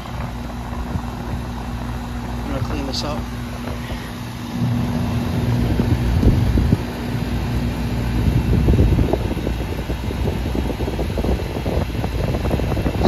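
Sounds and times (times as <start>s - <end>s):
air conditioner unit humming: 0.0s - 13.0s
low bumps and rumbles: 0.0s - 13.0s.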